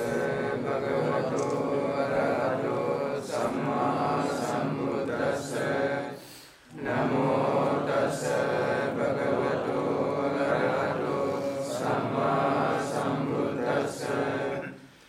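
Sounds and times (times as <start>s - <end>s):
men chanting together: 0.0s - 14.8s.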